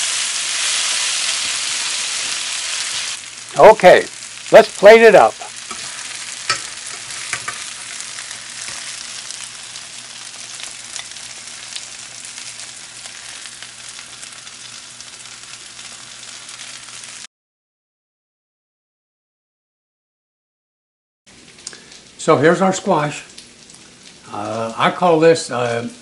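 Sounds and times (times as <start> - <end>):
squash sizzling in oil: 0.0 - 17.3, 21.3 - 26.0.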